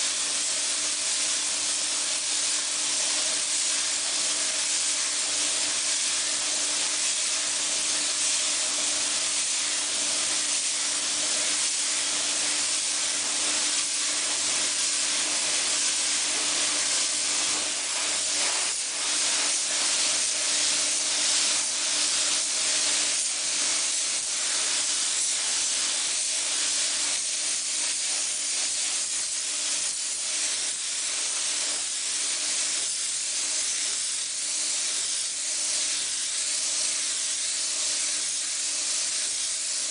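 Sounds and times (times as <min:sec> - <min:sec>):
paint spray gun hissing: 0:00.0 - 0:39.9.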